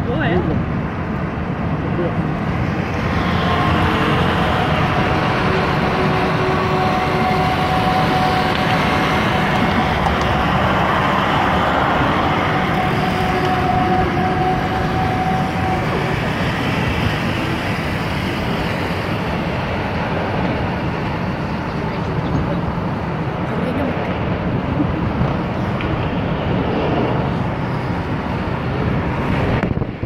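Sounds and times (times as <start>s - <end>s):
vehicle road and engine noise: 0.0s - 30.0s.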